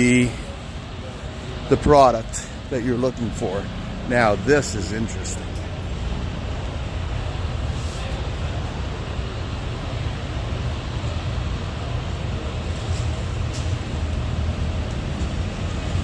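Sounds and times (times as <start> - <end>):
exhibition hall rumble: 0.0 - 16.0.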